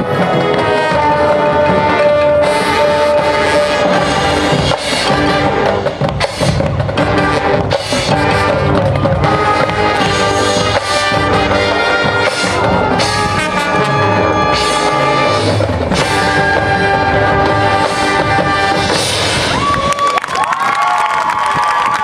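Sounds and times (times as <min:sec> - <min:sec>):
brass chords: 0:00.0 - 0:19.5
drumline percussion: 0:00.0 - 0:22.0.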